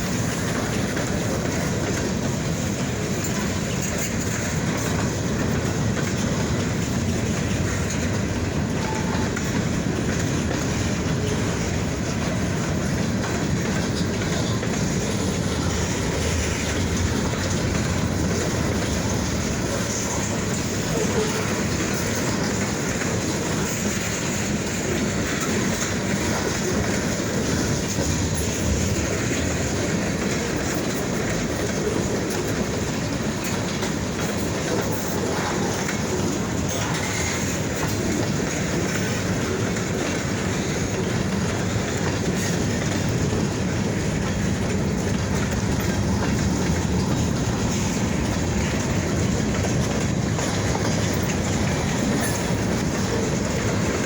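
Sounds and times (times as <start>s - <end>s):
steel wheels rumbling on rail: 0.0s - 54.0s
wheels clacking over rail joints: 0.0s - 54.0s.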